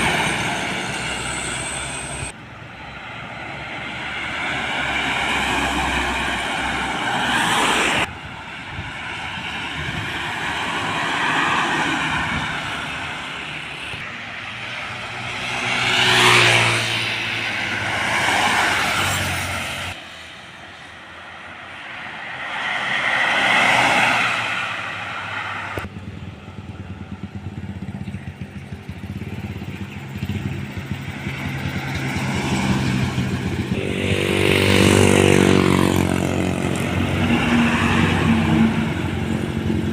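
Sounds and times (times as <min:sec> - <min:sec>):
trucks and buses driving past: 0:00.0 - 0:39.9.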